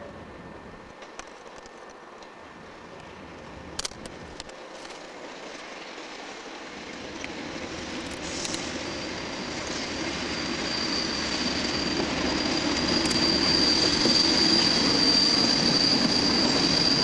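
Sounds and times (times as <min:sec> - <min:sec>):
diesel locomotive hauling freight train: 0:00.0 - 0:17.0.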